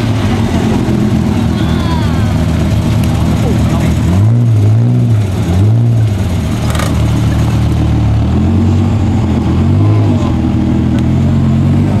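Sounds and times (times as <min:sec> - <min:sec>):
car engine revving and running: 0:00.0 - 0:12.0.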